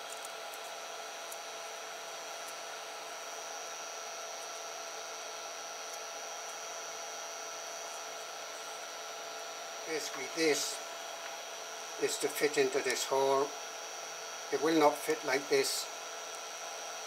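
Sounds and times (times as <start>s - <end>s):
fan whirring with whine: 0.0s - 17.0s.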